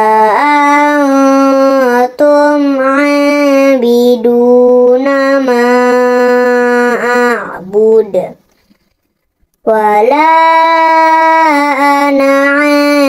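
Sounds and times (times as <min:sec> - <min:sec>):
person chanting recitation: 0:00.0 - 0:08.4, 0:09.6 - 0:13.0.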